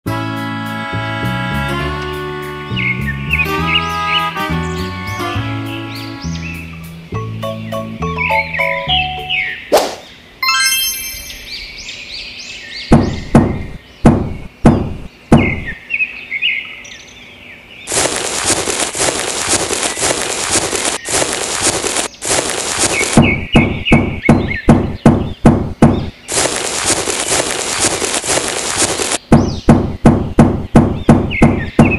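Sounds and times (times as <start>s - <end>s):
bird chirps: 2.7s - 18.0s, 19.7s - 28.4s, 29.2s - 31.9s.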